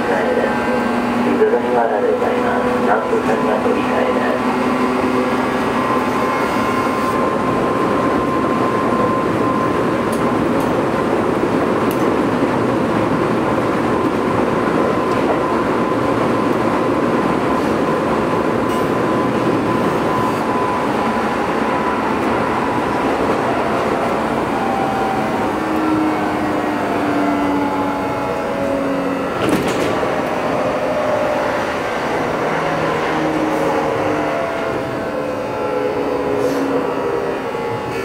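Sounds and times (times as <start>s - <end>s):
train wheels rolling on rails: 3.2s - 38.0s.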